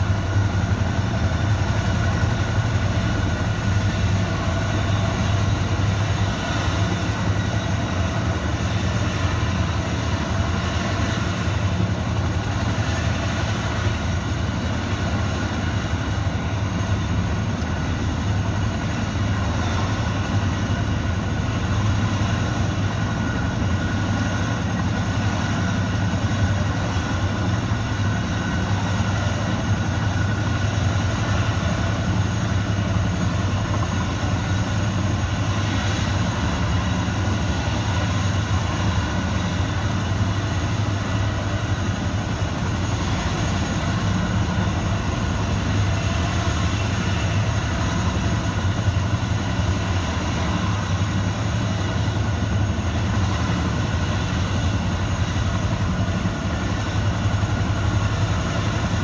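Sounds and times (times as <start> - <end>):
helicopter engine and rotors: 0.0 - 59.0.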